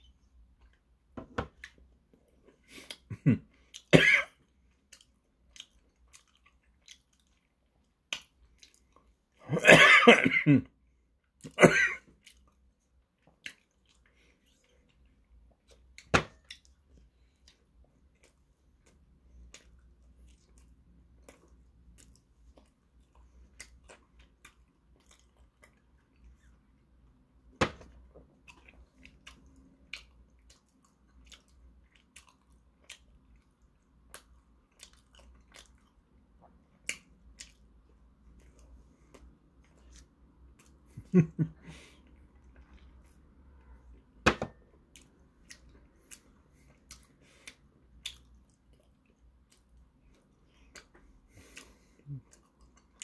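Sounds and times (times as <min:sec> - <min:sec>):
man chewing with lip smacks: 0:00.0 - 0:09.4, 0:11.2 - 0:53.0.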